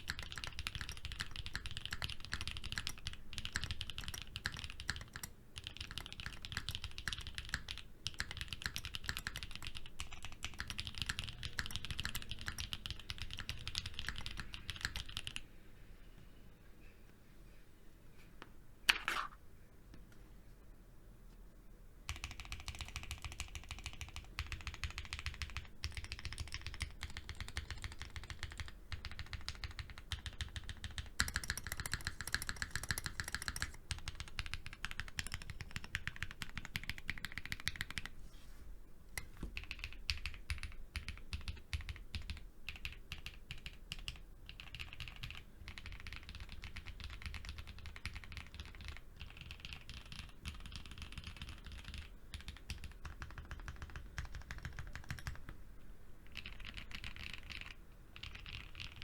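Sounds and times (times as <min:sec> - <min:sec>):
mechanical keyboard typing: 0:00.0 - 0:15.4, 0:22.1 - 0:38.1, 0:39.2 - 0:55.6, 0:56.3 - 0:59.0.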